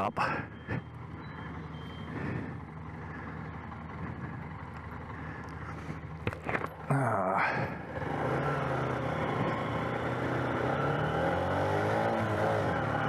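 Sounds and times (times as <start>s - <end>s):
motorcycle engine drone: 0.0s - 13.0s
wind and road noise: 0.0s - 13.0s.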